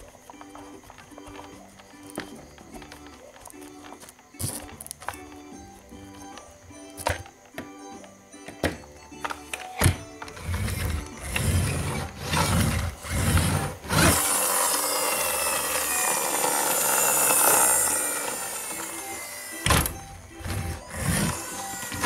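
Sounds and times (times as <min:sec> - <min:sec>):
plastic wheels rubbing: 0:00.0 - 0:07.6, 0:09.2 - 0:22.0
background music: 0:00.0 - 0:22.0.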